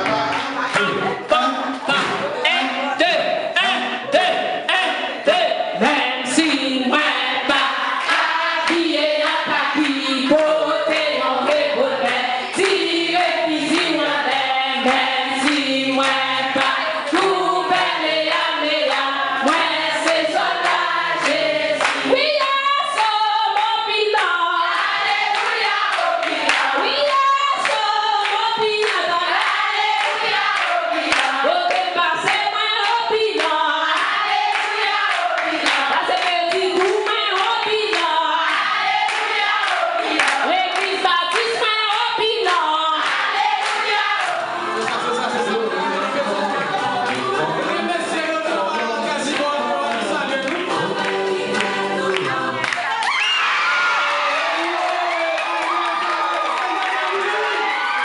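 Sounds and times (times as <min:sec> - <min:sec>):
hands clapping: 0:00.0 - 0:02.7, 0:06.4 - 0:22.2, 0:25.3 - 0:45.2, 0:47.0 - 0:47.6, 0:49.2 - 0:53.4, 0:54.4 - 0:58.0
congregation singing a hymn: 0:03.1 - 0:52.9.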